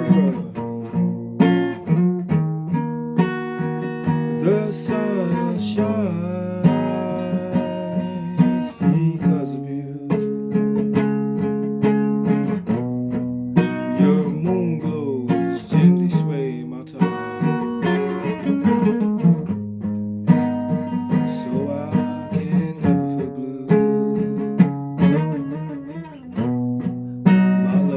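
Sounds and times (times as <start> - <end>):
guitar strummed chords: 0.0 - 27.9.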